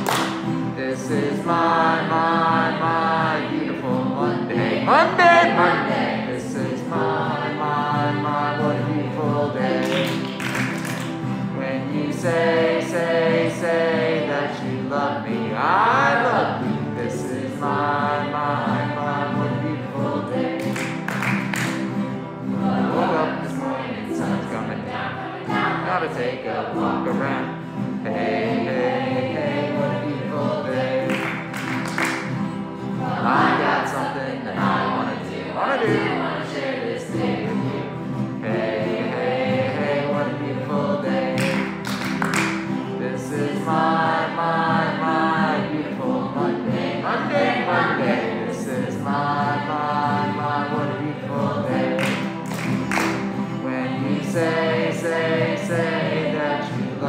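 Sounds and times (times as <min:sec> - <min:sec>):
group singing together: 0:00.0 - 0:57.0
strummed acoustic guitars: 0:00.0 - 0:57.0
ukulele: 0:00.0 - 0:57.0.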